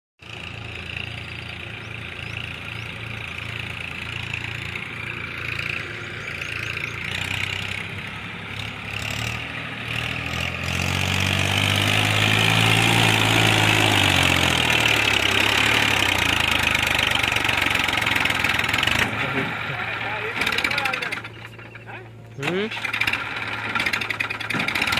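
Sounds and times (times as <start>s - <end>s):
tractor diesel engine running: 0.2s - 24.9s.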